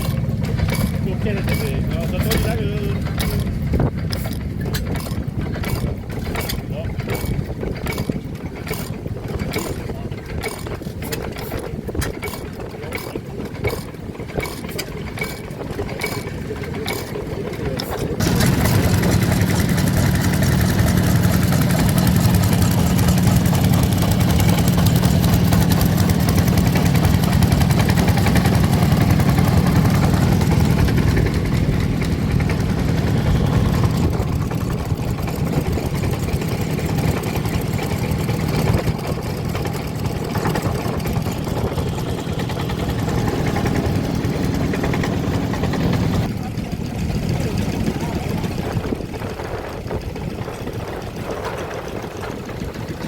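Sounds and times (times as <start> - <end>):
engine running with low hum: 0.0 - 53.0.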